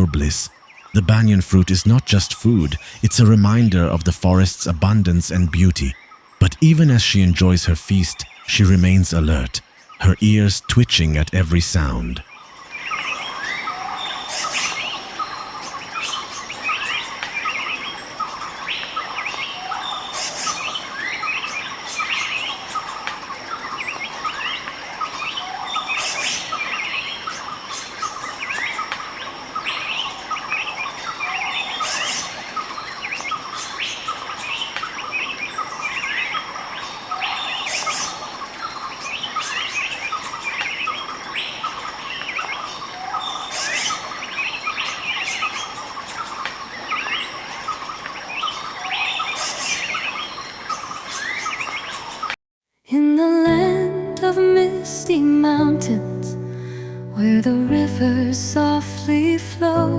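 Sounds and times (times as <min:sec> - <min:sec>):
birds chirping: 0:00.0 - 0:52.4.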